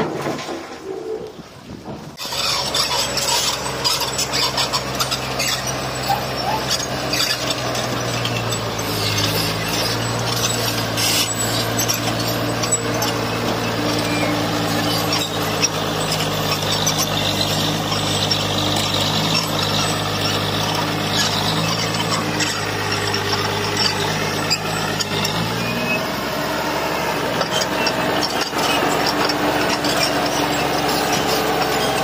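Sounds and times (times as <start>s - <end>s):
noisy scraping: 0.0s - 32.0s
low diesel engine drone: 0.8s - 32.0s.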